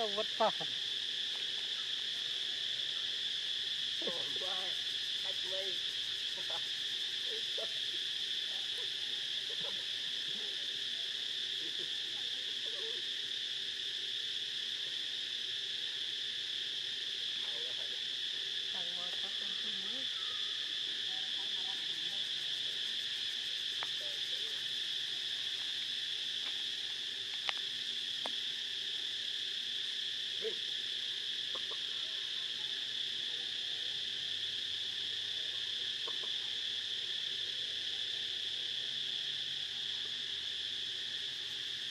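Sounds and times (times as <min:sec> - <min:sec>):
high-pitched insect chorus: 0:00.0 - 0:41.9.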